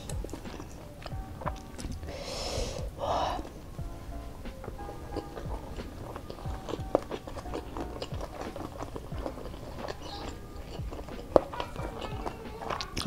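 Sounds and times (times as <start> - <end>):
chewing and wet mouth sounds: 0.0 - 3.6, 4.5 - 13.0.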